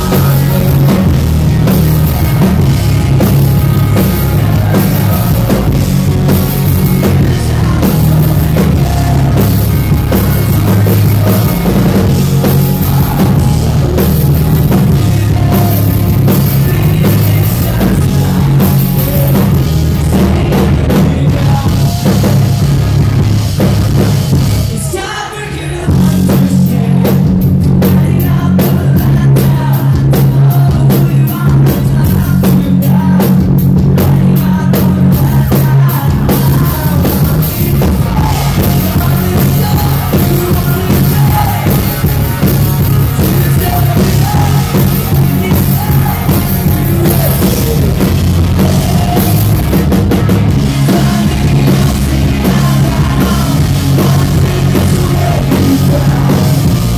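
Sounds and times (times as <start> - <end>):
live rock band: 0.0 - 56.9
person singing: 0.0 - 56.9.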